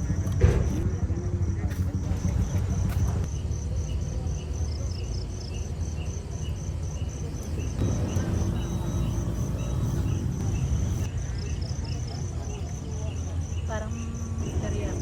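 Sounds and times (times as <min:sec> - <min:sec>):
steady low rumble: 0:00.0 - 0:05.4, 0:07.3 - 0:15.0
insects chirping: 0:01.4 - 0:15.0.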